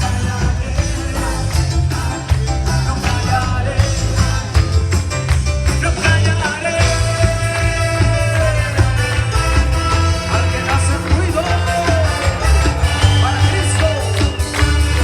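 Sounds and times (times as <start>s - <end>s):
drums beating: 0.0s - 15.0s
heavy bass: 0.0s - 15.0s
live band playing worship music: 0.0s - 15.0s.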